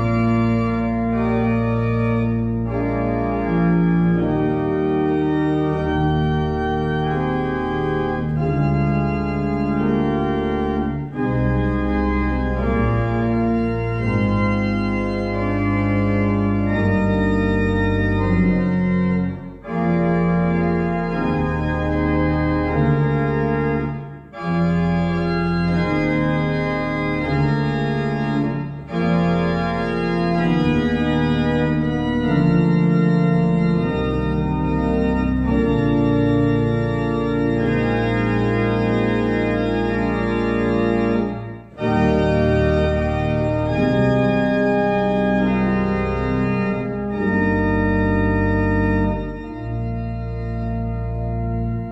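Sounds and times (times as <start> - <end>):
church organ playing chords: 0.0 - 51.9.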